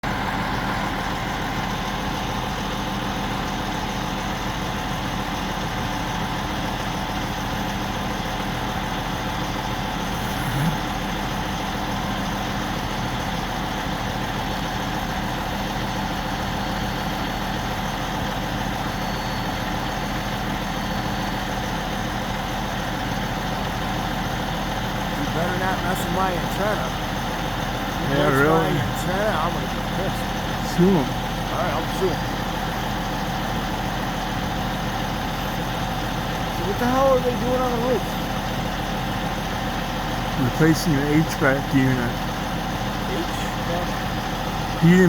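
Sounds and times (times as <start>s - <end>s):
crane diesel engine idling: 0.0s - 45.0s.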